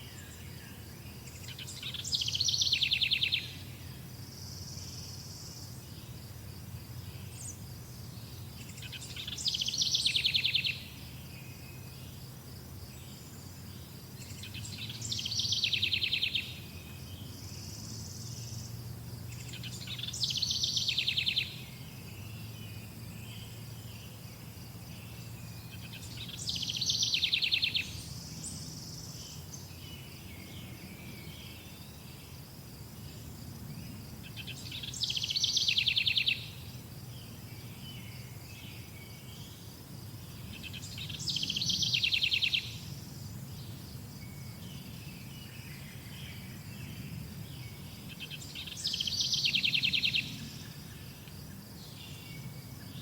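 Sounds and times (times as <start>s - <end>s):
songbird singing trills: 0.0s - 12.2s, 12.8s - 32.4s, 33.0s - 53.0s.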